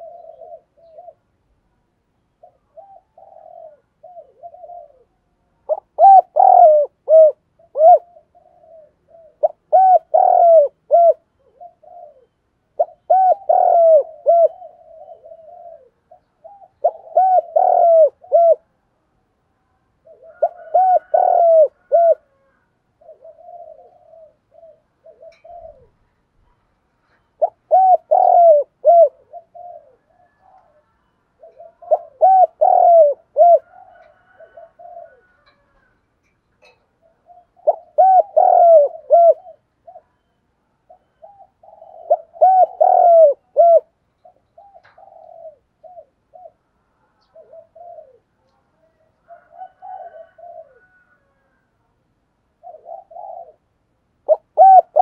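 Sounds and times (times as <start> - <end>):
dove cooing: 0.0 - 1.6, 2.4 - 18.8, 20.0 - 36.0, 36.6 - 51.6, 52.5 - 55.0.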